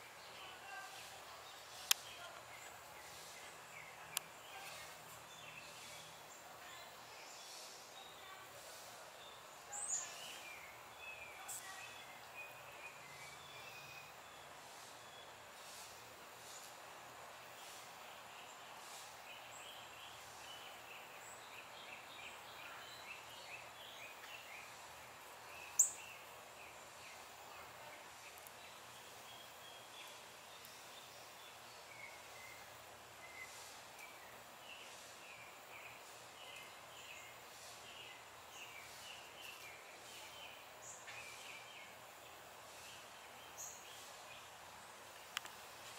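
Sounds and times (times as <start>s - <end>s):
low steady hiss: 0.0s - 45.9s.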